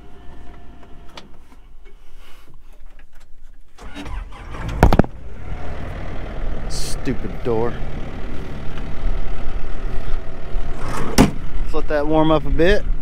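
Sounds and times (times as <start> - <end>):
diesel engine starting and idling: 0.0 - 1.5, 3.8 - 13.0.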